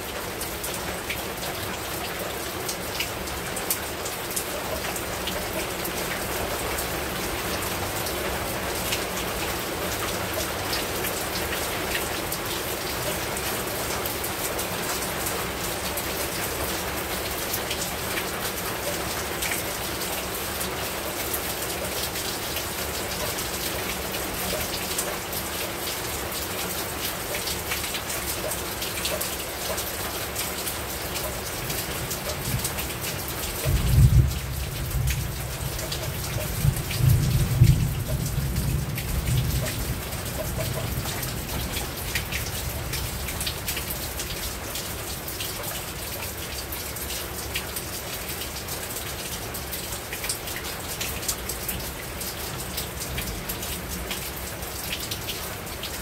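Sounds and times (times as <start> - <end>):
heavy rain on a rooftop: 0.0 - 56.0.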